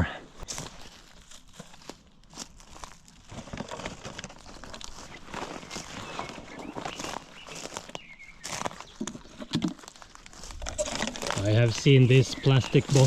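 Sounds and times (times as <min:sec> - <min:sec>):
footsteps crunching dry vegetation: 0:00.3 - 0:13.0
twigs crackling and snapping: 0:00.4 - 0:13.0.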